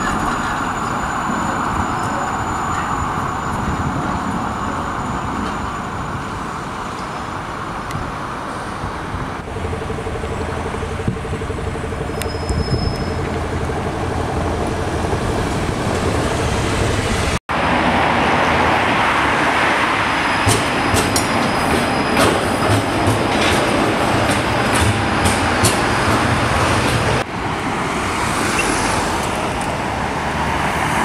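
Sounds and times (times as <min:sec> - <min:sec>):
bus passing with steady hum: 0:00.0 - 0:31.0
tram passing: 0:00.0 - 0:31.0
tram wheels clicking: 0:00.0 - 0:31.0.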